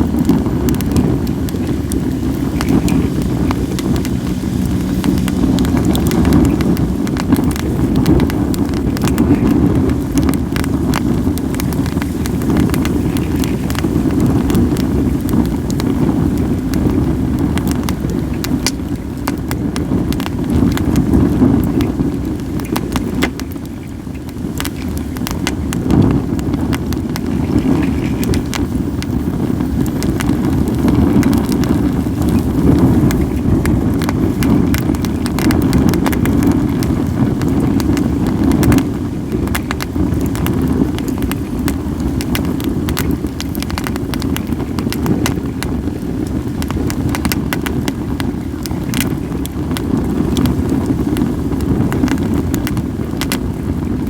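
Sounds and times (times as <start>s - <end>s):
firewood crackling and popping: 0.0s - 54.0s
wind buffeting microphone: 0.0s - 54.0s.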